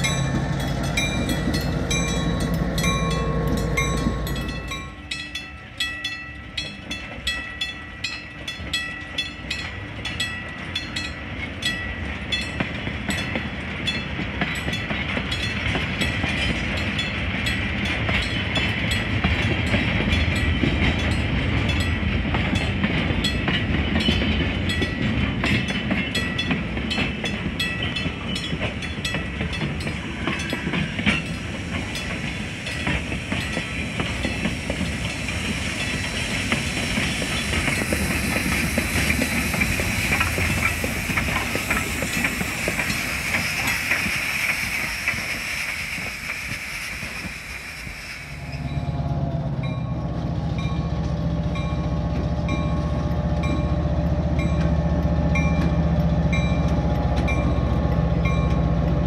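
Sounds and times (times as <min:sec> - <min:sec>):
train engine rumble: 0:00.0 - 0:59.0
train wheels clicking over rail joints: 0:00.0 - 0:59.0.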